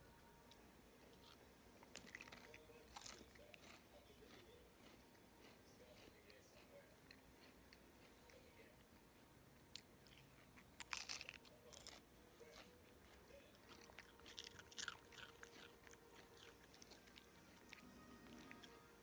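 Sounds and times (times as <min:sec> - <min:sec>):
dog chewing crunchy chip: 0:01.0 - 0:08.7, 0:09.7 - 0:19.0.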